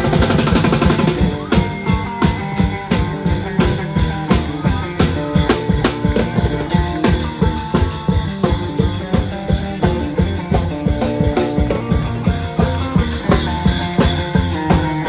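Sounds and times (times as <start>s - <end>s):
long drums playing fast beat: 0.0s - 15.0s.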